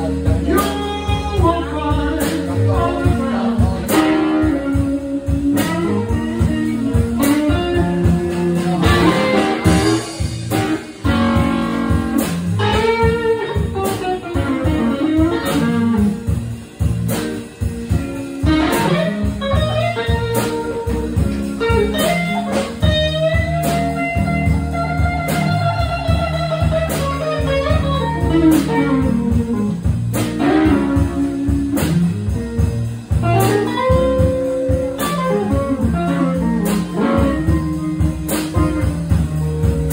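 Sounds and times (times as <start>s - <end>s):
lead guitar soloing with bent notes: 0.0s - 39.9s
live band playing: 0.0s - 39.9s.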